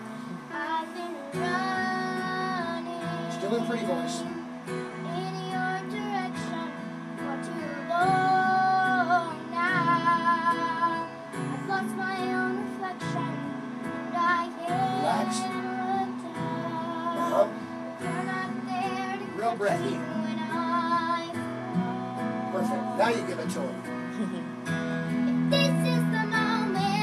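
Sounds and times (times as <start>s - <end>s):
girl singing a slow song: 0.0s - 23.1s, 25.0s - 27.0s
instrumental accompaniment: 0.0s - 27.0s.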